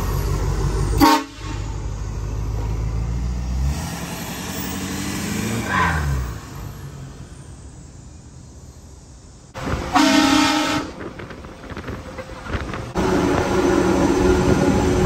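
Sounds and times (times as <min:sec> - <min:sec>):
diesel truck engine revving: 0:00.0 - 0:08.5, 0:09.5 - 0:15.0.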